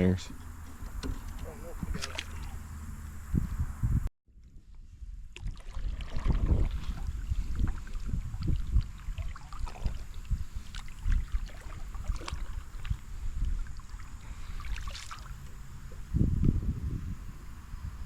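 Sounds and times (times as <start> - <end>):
people moving in a canoe: 0.0 - 3.7, 4.4 - 18.0.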